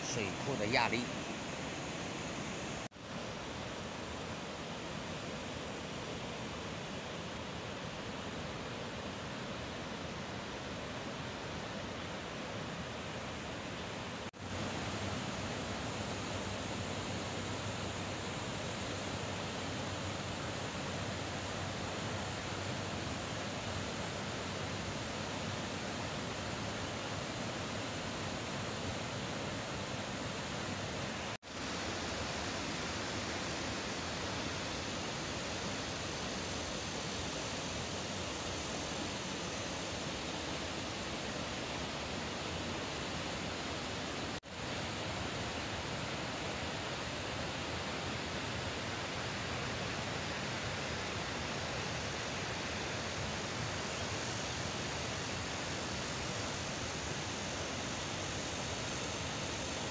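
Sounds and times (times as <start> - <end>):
water rushing through dam gates: 0.0 - 59.9.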